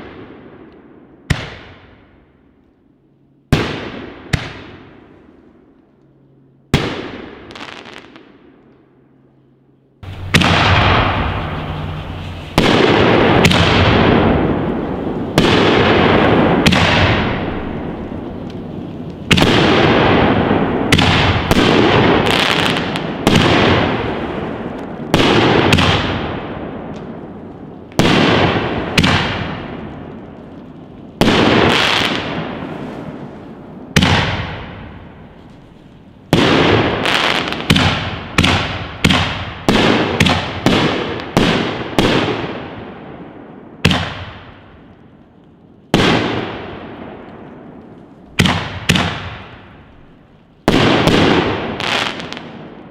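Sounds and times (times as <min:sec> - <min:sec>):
firework booms: 0:00.0 - 0:02.3, 0:03.5 - 0:05.7, 0:06.7 - 0:08.6, 0:10.0 - 0:52.9.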